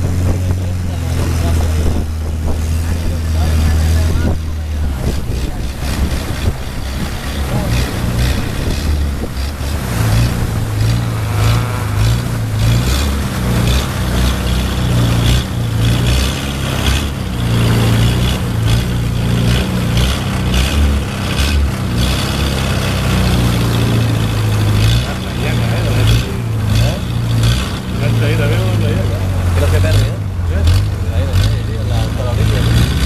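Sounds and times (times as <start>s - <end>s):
wind and water hiss: 0.0s - 30.5s
boat engine droning: 0.0s - 33.0s.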